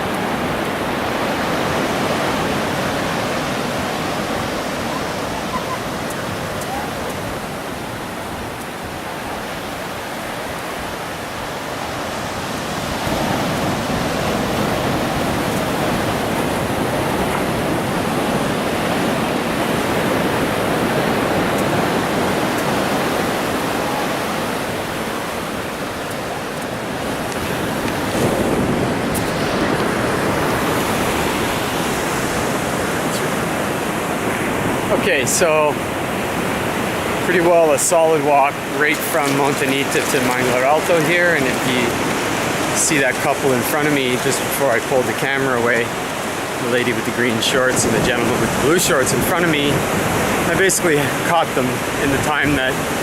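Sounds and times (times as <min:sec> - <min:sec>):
ocean surf breaking on beach: 0:00.0 - 0:53.0.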